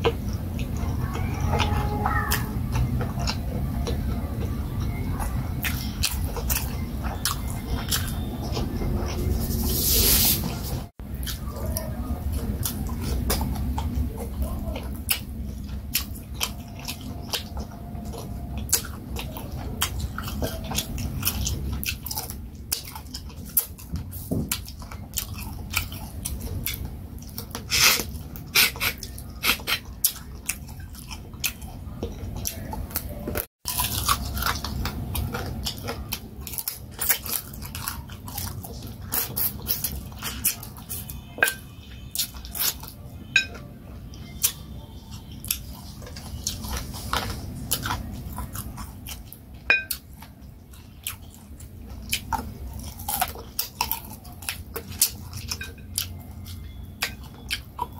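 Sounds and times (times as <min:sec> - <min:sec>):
chewing and biting: 0:00.0 - 0:57.9.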